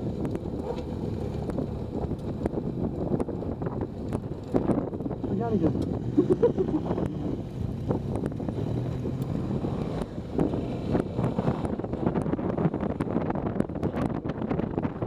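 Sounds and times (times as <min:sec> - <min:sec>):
motorcycle engine running: 0:00.0 - 0:15.0
wind on microphone: 0:00.0 - 0:15.0.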